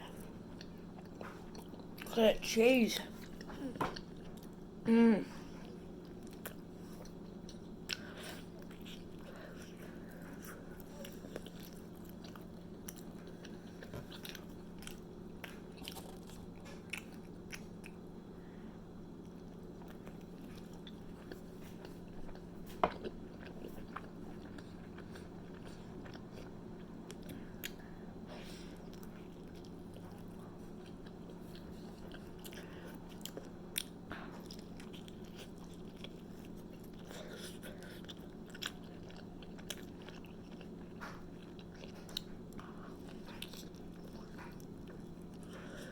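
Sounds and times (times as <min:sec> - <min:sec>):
steady low hum: 0:00.0 - 0:45.9
chewing and biting sandwich: 0:05.6 - 0:18.1, 0:19.1 - 0:45.9.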